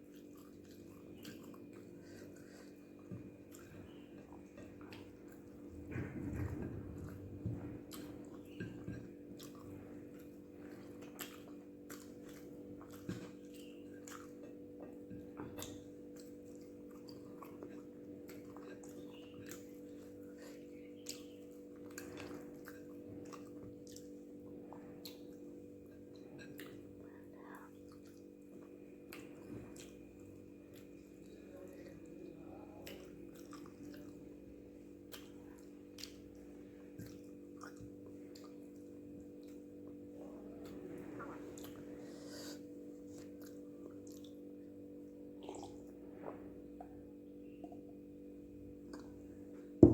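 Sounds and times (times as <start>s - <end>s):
wet chewing and mouth clicks: 0.0s - 32.0s, 32.8s - 40.8s, 41.4s - 44.7s, 45.3s - 48.0s.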